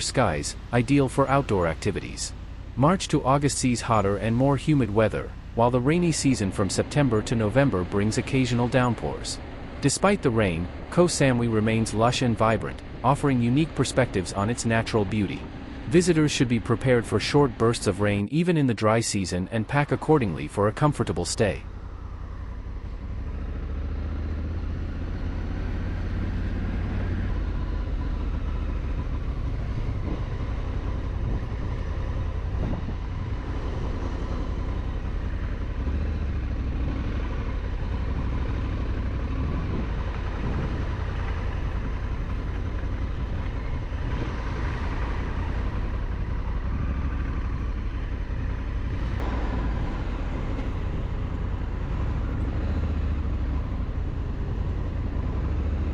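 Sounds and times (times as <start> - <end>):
wind and road noise rumble: 0.0 - 55.9.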